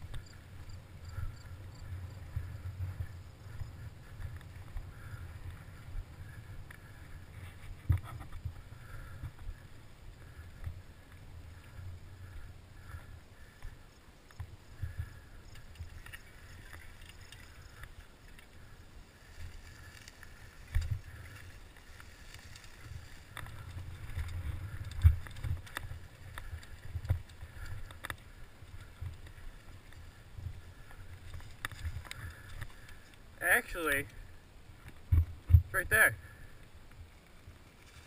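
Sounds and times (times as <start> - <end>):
bike tyres rumbling on rough dirt: 0.0 - 38.0.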